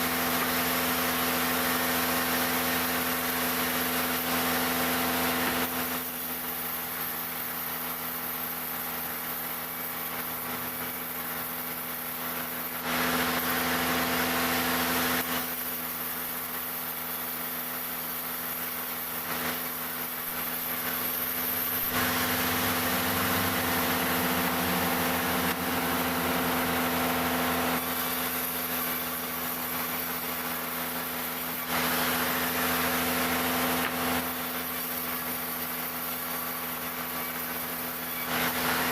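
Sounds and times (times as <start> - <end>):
saw cutting through timber: 0.0 - 38.9
sawmill machine running: 0.0 - 38.9.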